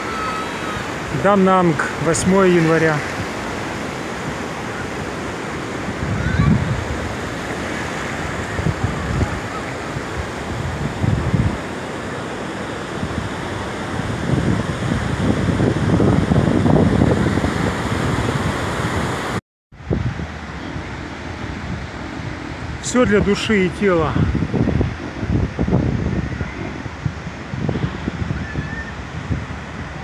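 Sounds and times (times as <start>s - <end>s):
surf breaking on beach: 0.0s - 30.0s
wind buffeting microphone: 0.0s - 30.0s.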